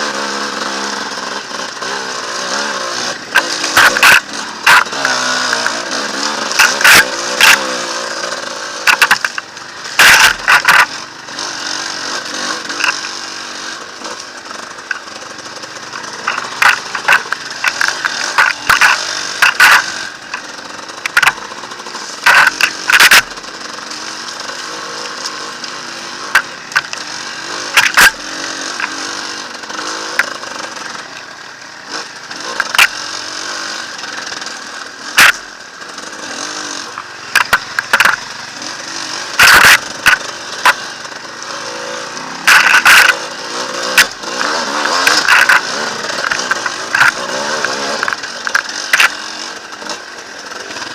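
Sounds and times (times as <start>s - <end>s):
motorcycle engine revving: 0.0s - 50.9s
sharp knocks and clatter: 0.0s - 50.9s.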